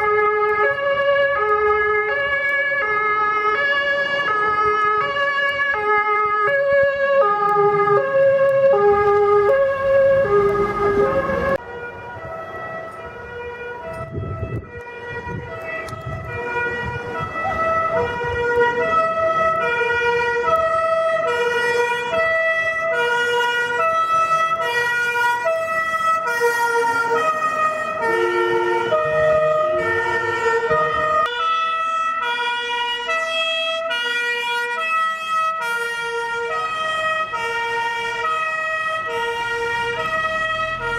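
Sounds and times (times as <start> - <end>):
truck engine: 0.0 - 31.6, 35.4 - 40.9
two-tone fire engine sirens: 0.0 - 40.9.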